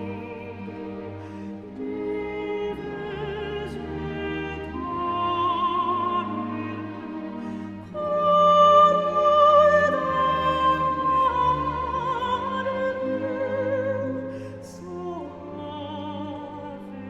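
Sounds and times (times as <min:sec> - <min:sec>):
slow orchestral music: 0:00.0 - 0:17.0.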